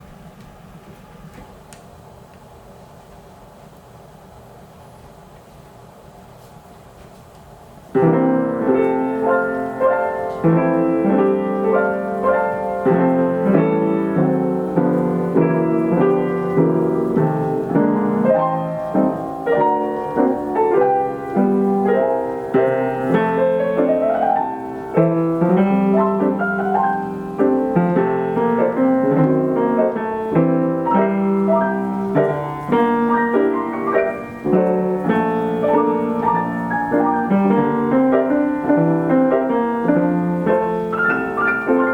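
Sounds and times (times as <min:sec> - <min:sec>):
player piano playing chords: 0:07.8 - 0:41.9.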